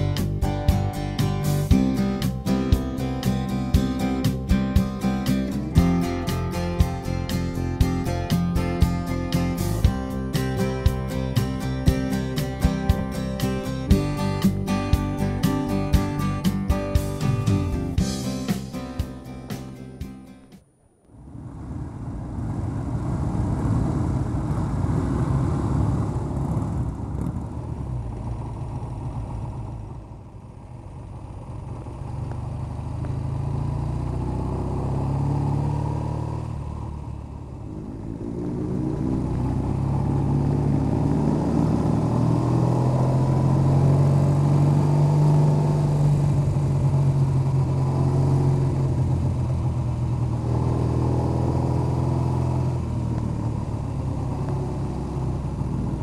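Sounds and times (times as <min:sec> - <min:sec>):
motorcycle engine riding: 0:00.0 - 0:56.0.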